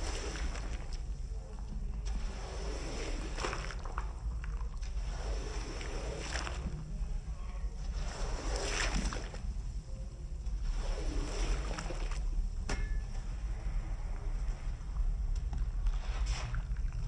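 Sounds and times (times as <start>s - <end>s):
water swishing across wet rug: 0.0s - 12.6s, 13.3s - 17.0s
steady low rumble: 0.0s - 17.0s.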